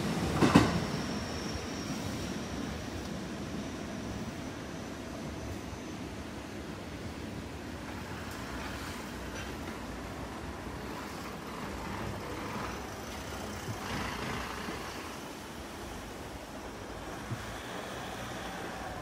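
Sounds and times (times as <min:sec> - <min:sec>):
electric train rumble: 0:00.0 - 0:19.0.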